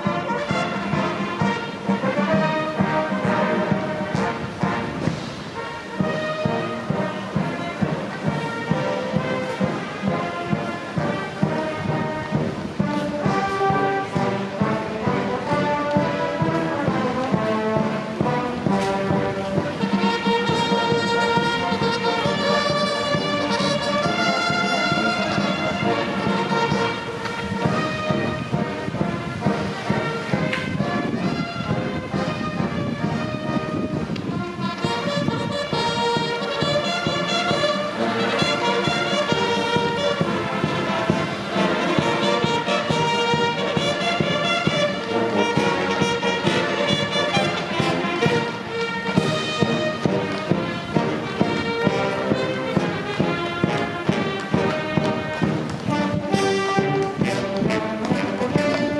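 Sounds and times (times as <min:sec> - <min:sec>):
brass band playing chords: 0:00.0 - 0:58.9
drum beats: 0:00.0 - 0:58.9.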